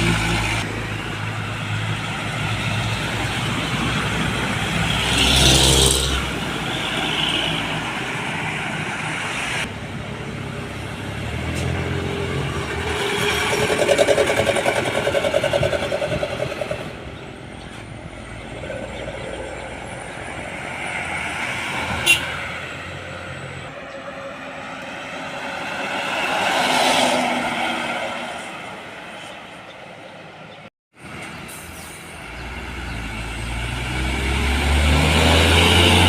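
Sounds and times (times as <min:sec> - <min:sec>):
heavy trucks passing: 0:00.0 - 0:36.0.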